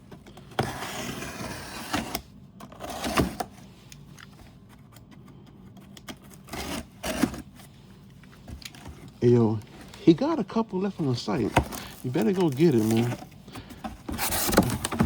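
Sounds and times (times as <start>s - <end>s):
rustling scrape of box: 0.4s - 3.8s, 6.1s - 15.0s.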